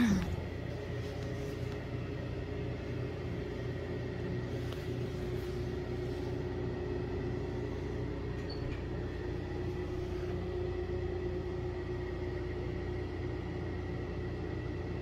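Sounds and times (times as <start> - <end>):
constant hum: 0.0 - 15.0
steady low rumble: 0.0 - 15.0.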